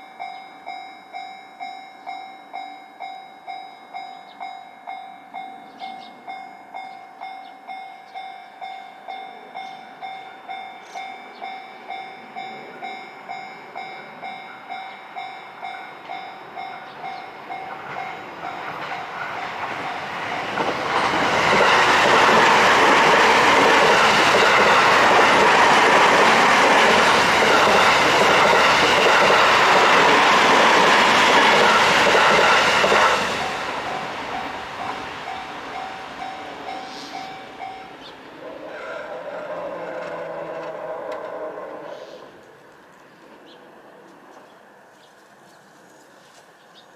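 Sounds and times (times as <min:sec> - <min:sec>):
level-crossing warning bell: 0:00.0 - 0:41.0
electric train passing: 0:00.0 - 0:45.0.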